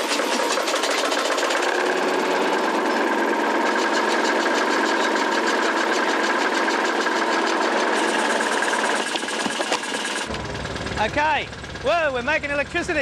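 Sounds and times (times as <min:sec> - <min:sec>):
steam engine knocking: 0:00.0 - 0:13.0.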